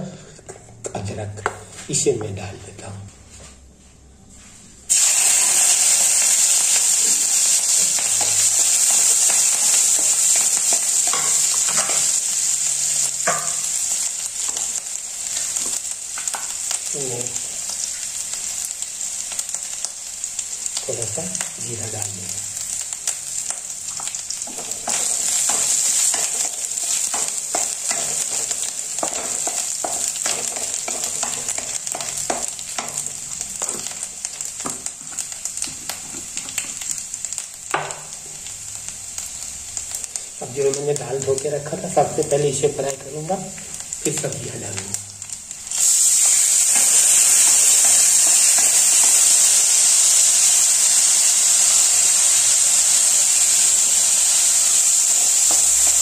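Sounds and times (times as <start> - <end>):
food sizzling in hot oil: 4.9 - 56.0.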